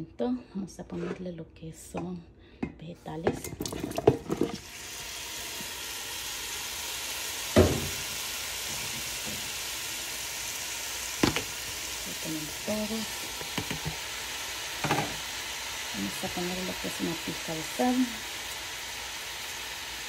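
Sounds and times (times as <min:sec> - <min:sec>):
vegetables sizzling in oil: 0:03.5 - 0:20.0.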